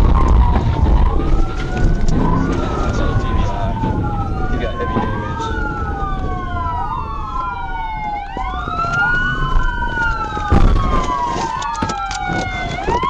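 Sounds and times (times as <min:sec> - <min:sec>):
low vehicle rumble: 0:00.0 - 0:11.3
police sirens wailing: 0:00.0 - 0:13.0.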